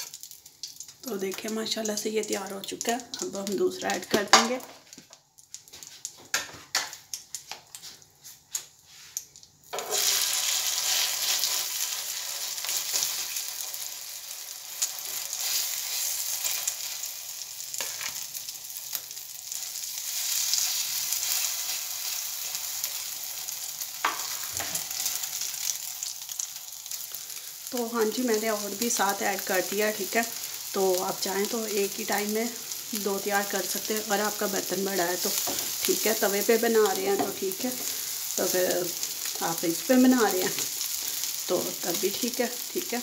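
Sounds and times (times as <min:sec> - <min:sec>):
patty sizzling in hot oil: 0:00.0 - 0:43.0.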